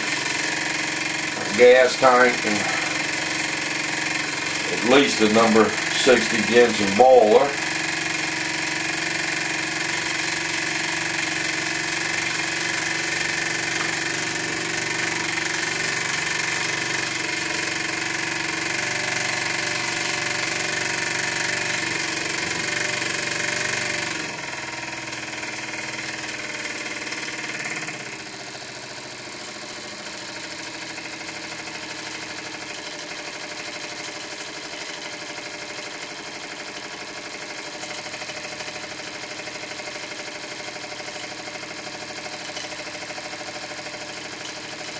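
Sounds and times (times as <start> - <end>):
small steam engine running fast: 0.0 - 44.9.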